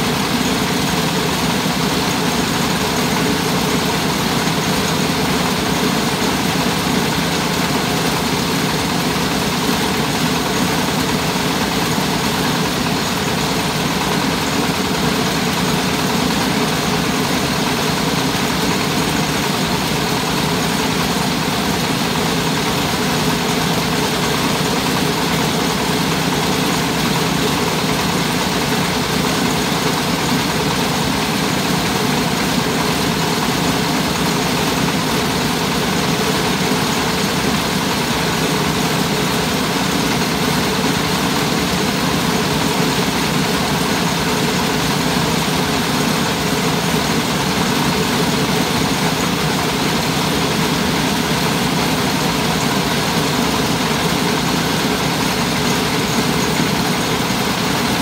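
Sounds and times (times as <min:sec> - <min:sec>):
rice milling machine running: 0:00.0 - 0:58.0.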